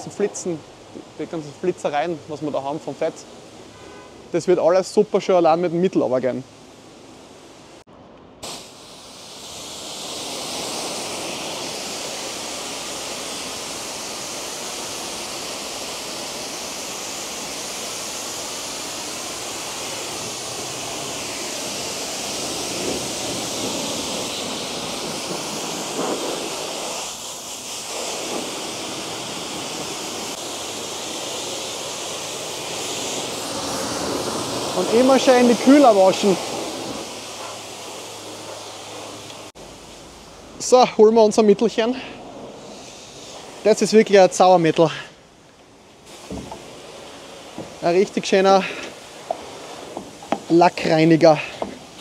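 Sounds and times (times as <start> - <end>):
pressure washer spraying water: 8.4 - 45.0, 45.8 - 52.0.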